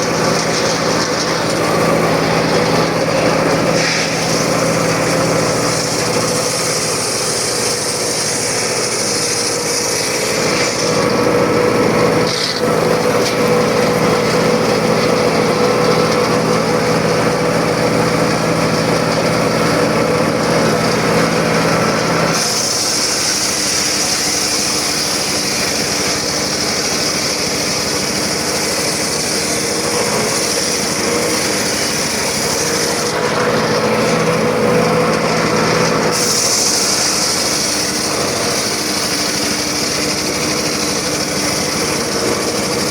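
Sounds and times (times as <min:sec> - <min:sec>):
circular saw cutting wood: 0:00.0 - 0:42.9.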